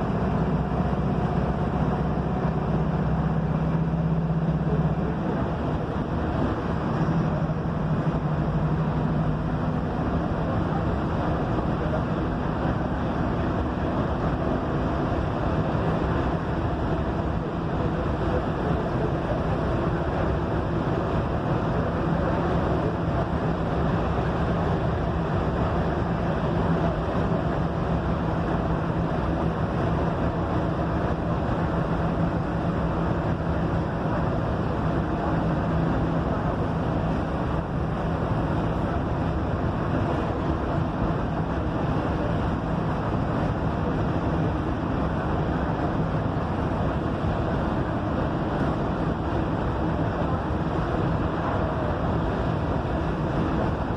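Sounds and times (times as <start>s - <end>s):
bus diesel engine humming: 0.0s - 53.9s
road and wind noise: 0.0s - 53.9s.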